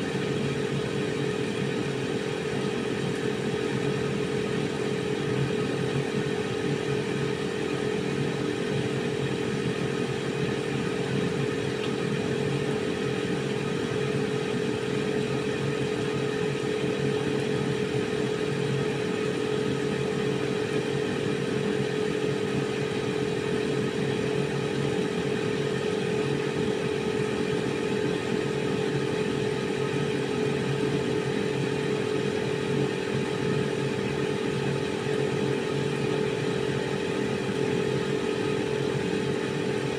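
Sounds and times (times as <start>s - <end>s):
air fryer fan humming: 0.0s - 39.9s.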